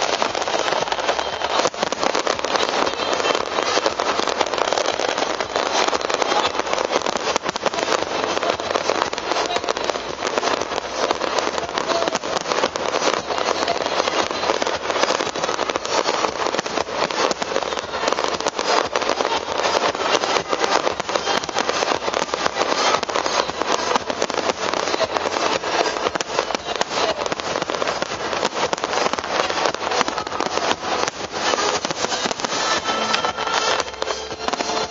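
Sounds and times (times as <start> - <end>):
fireworks crackling: 0.0 - 34.9.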